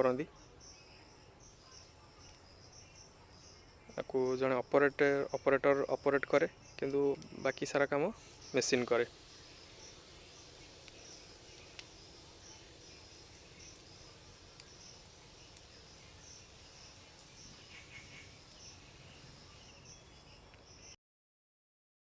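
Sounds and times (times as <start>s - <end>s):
faint insects chirping: 0.0s - 21.0s.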